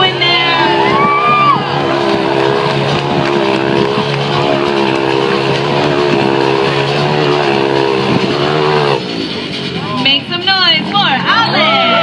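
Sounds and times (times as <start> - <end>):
motorcycle engine revving high: 0.0 - 10.0.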